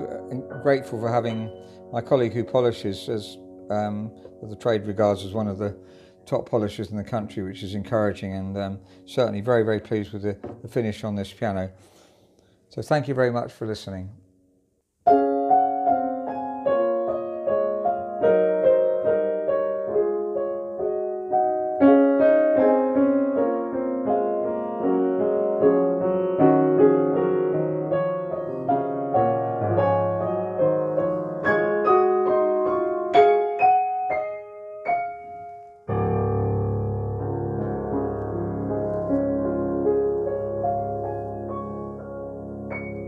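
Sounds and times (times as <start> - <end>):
upright piano piece: 0.0 - 11.3, 15.1 - 43.0.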